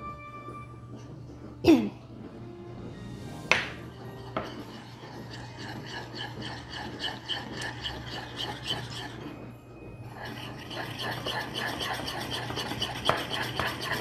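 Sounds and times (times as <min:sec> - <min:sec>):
spoon stirring and scraping bowl: 0:02.4 - 0:14.0.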